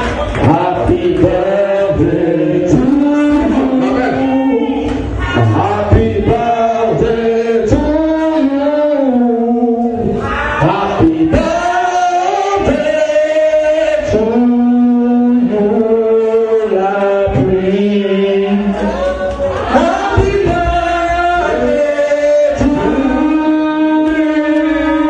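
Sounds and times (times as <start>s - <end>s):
backing music: 0.0s - 25.0s
man singing into a microphone: 0.3s - 25.0s.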